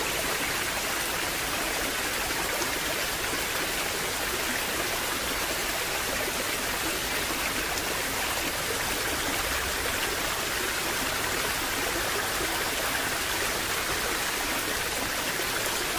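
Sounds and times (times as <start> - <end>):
rushing water stream: 0.0 - 15.9.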